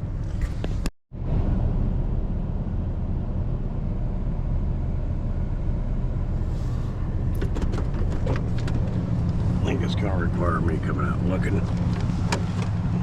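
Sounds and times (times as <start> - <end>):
vehicle engine rumbling inside: 0.0 - 13.0.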